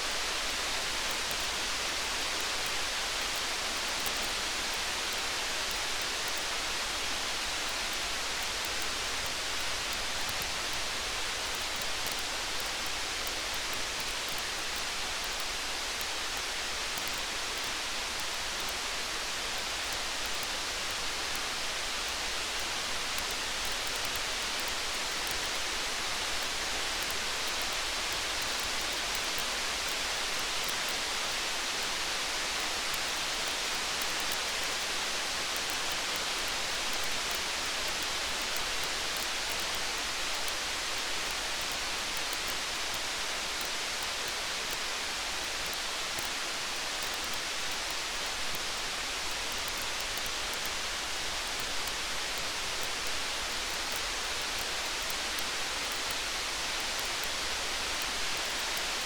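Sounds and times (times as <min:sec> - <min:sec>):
faint campfire crackles: 0:00.0 - 0:59.0
steady rain hissing: 0:00.0 - 0:59.0.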